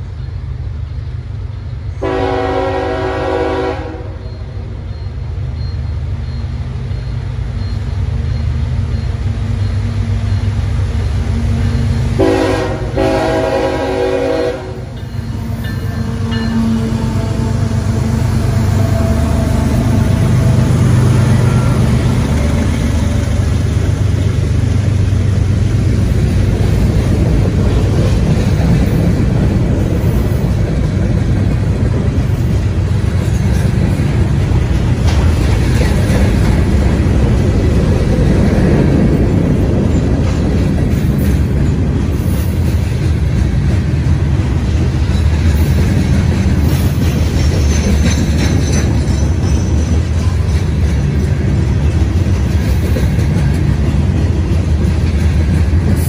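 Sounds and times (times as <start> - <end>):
diesel locomotives passing: 0.0 - 56.0
train wheels on rail: 0.0 - 56.0.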